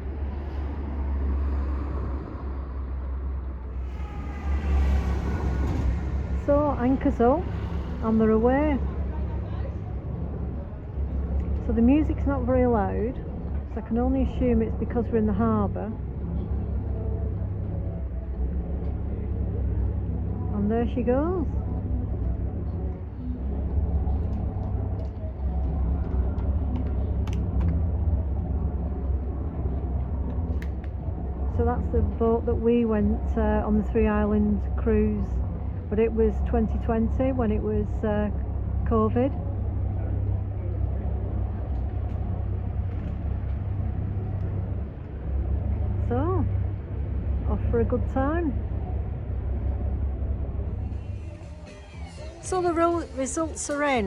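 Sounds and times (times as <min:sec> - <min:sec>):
boat engines rumbling: 0:00.0 - 0:54.0.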